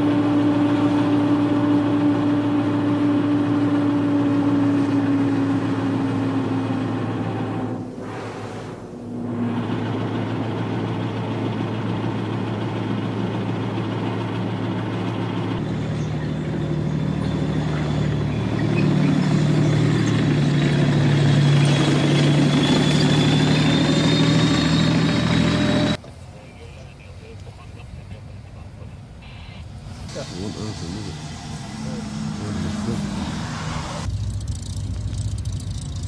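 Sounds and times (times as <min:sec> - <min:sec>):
armoured vehicle engines droning: 0:00.0 - 0:27.1, 0:28.3 - 0:36.0
high engine whine: 0:00.0 - 0:27.6, 0:28.4 - 0:36.0.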